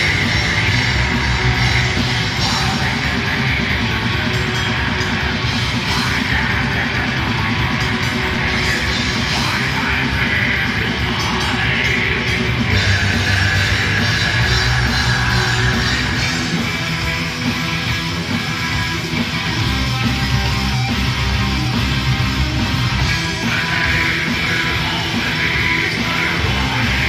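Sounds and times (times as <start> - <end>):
bass guitar: 0.0 - 27.0
distorted electric guitars: 0.0 - 27.0
drums: 0.0 - 27.0.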